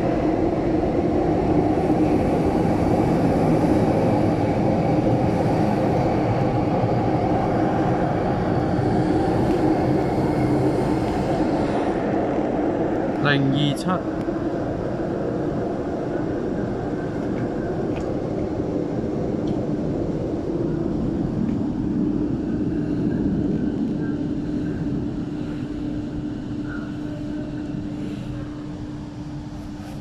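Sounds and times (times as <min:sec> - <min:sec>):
train rumbling in tunnel: 0:00.0 - 0:30.0.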